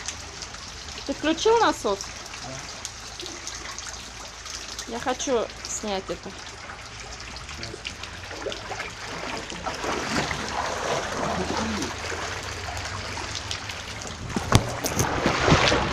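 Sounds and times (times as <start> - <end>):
floodwater rushing down street: 0.0 - 15.9.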